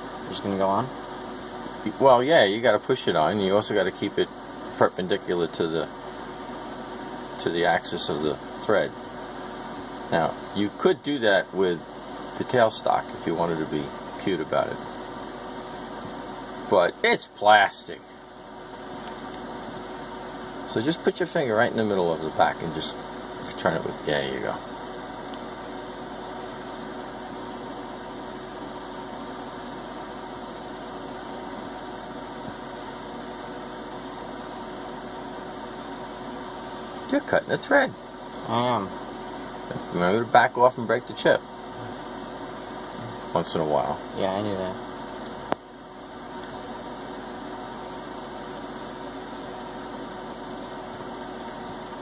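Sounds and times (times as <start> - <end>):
background hum and hiss: 0.0 - 52.0.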